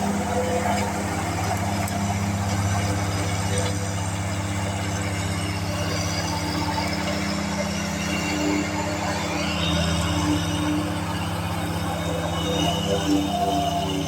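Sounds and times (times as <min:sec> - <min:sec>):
lawn mower cutting grass: 0:00.0 - 0:14.0.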